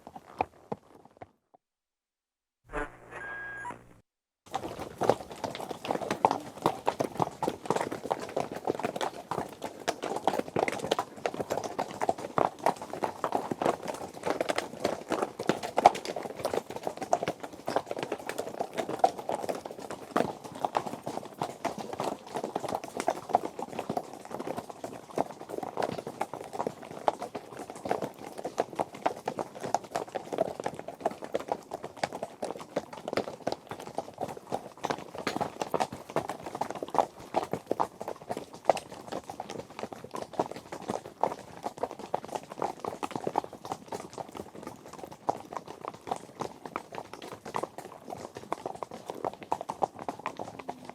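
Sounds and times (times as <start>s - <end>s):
horse hooves galloping: 4.5s - 50.9s.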